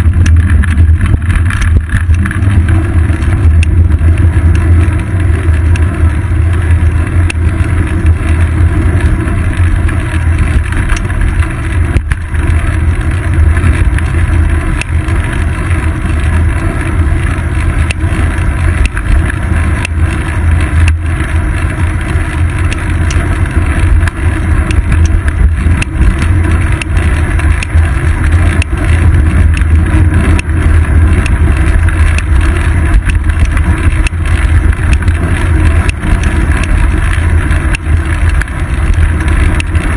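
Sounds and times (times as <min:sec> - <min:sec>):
road vibration: 0:00.0 - 0:39.9.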